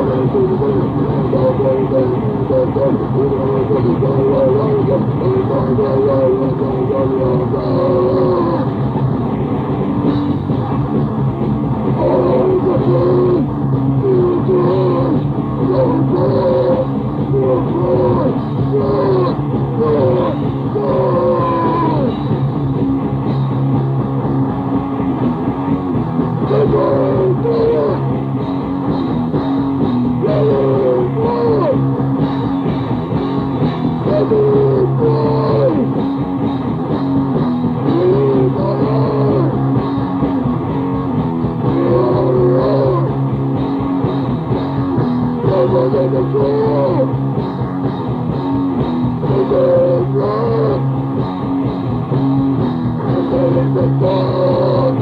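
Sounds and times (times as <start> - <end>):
distorted guitar: 0.0 - 55.0
fast drumming: 0.0 - 55.0.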